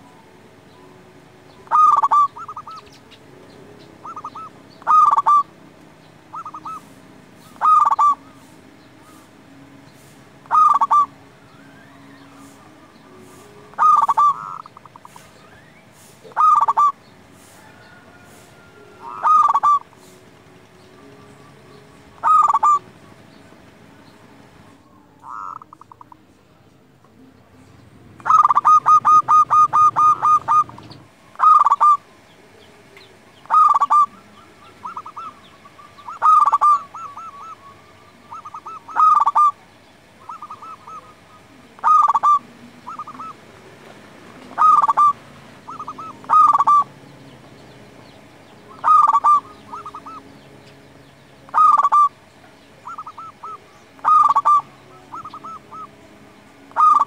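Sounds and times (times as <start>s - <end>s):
dove cooing: 1.5s - 3.2s, 3.8s - 5.6s, 6.3s - 20.3s, 21.4s - 23.2s, 24.5s - 26.2s, 28.0s - 32.2s, 33.4s - 47.0s, 48.0s - 50.3s, 51.4s - 57.0s.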